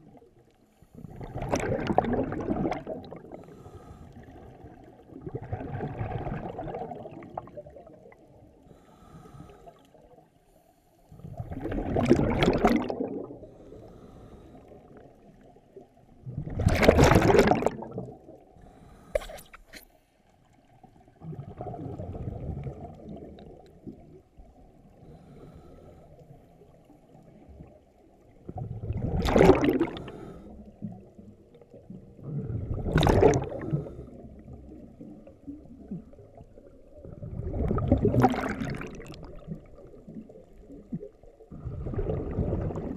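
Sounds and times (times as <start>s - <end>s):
underwater bubble bursts: 1.0s - 3.5s, 4.2s - 8.6s, 11.2s - 13.7s, 14.7s - 18.5s, 20.8s - 25.6s, 26.2s - 42.9s.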